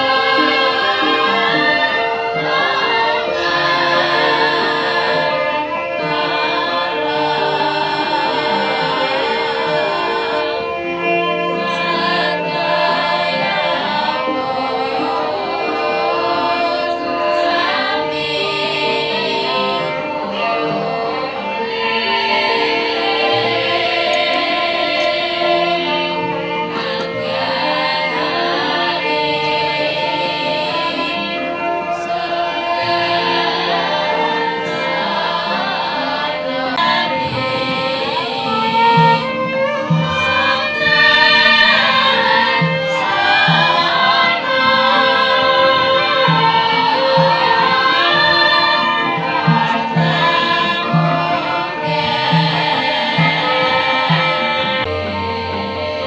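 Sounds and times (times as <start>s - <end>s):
gamelan ensemble playing: 0.0s - 56.0s
voices singing: 0.0s - 56.0s.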